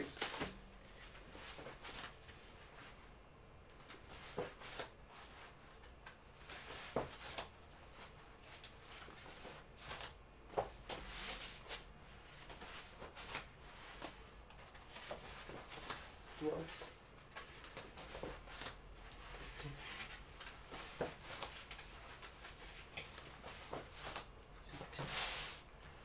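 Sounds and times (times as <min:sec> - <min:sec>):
body rustling on exercise mat: 0:00.0 - 0:26.0.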